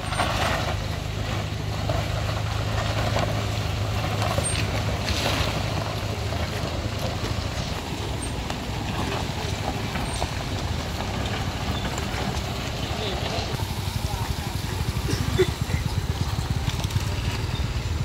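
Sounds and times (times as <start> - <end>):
car engines droning: 0.0 - 18.0
continuous noisy wash: 0.0 - 18.0.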